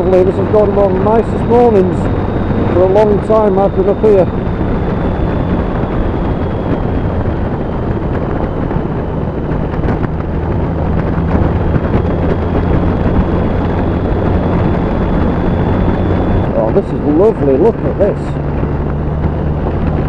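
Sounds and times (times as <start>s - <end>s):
motorcycle engine cruising: 0.0s - 20.0s
wind rush on microphone: 0.0s - 20.0s.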